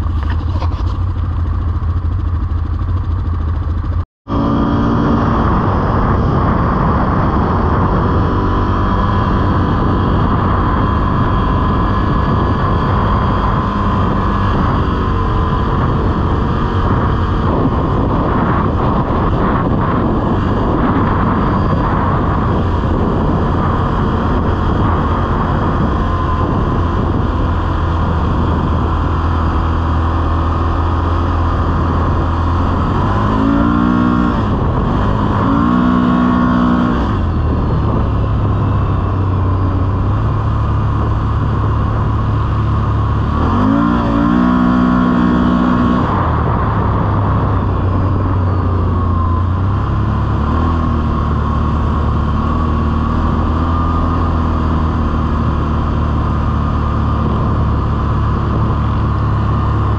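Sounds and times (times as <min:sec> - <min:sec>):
atv engine droning: 0:00.0 - 0:59.9.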